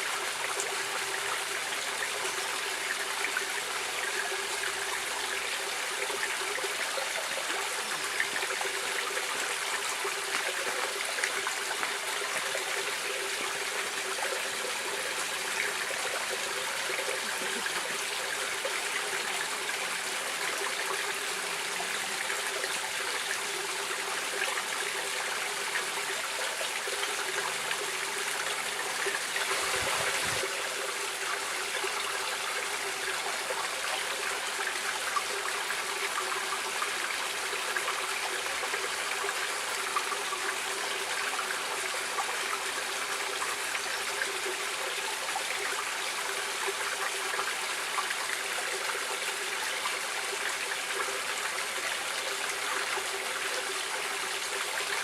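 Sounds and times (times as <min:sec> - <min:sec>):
stream of running water: 0:00.0 - 0:55.0.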